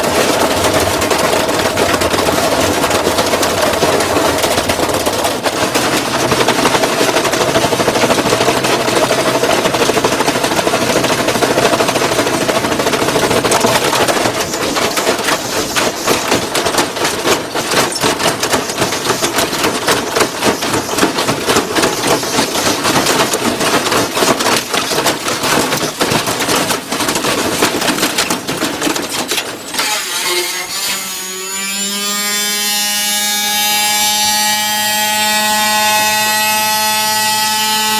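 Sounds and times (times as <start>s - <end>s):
washing machine rattling and banging: 0.0s - 32.4s.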